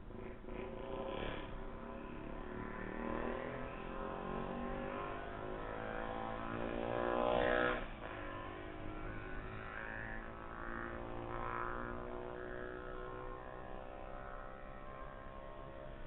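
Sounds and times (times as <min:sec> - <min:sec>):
vehicle accelerating past: 0:00.2 - 0:15.8.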